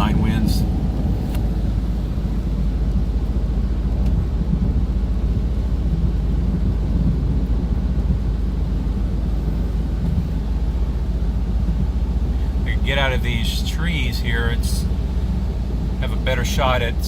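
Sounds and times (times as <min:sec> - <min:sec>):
road and engine noise in car: 0:00.0 - 0:17.0.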